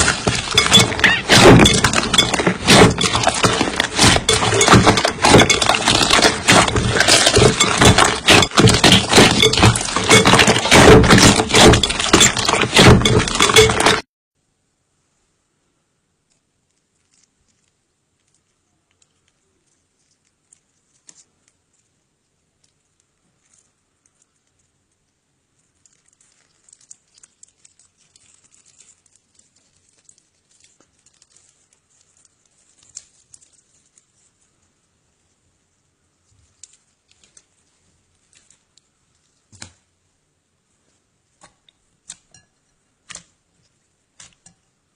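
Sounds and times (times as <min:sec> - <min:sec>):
slime crackling and popping: 0:00.0 - 0:14.0, 0:16.2 - 0:35.0, 0:36.1 - 0:40.0.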